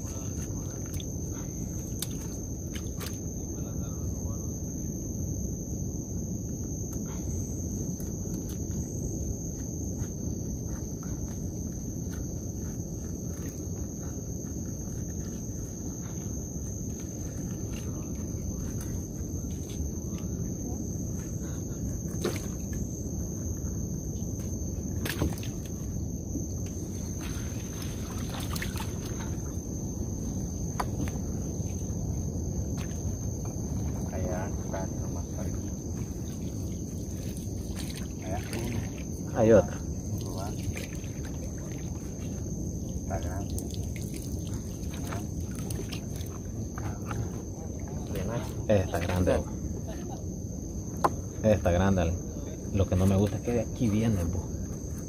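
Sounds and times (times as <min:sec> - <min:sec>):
high insect trill: 0:00.0 - 0:55.0.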